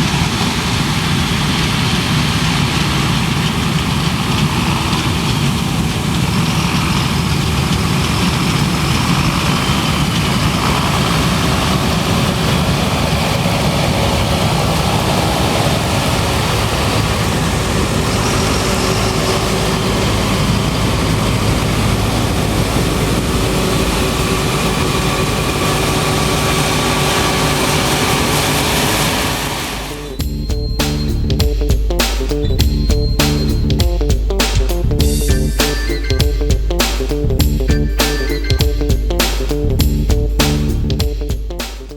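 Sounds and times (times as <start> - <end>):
diesel engine rumble: 0.0 - 41.9.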